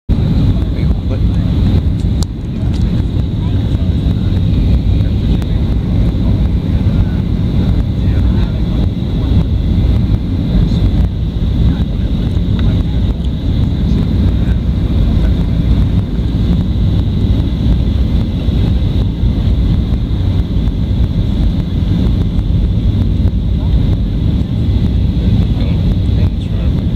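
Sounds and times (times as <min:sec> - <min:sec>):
deep engine rumble: 0:00.1 - 0:26.9
rushing air: 0:00.1 - 0:26.9.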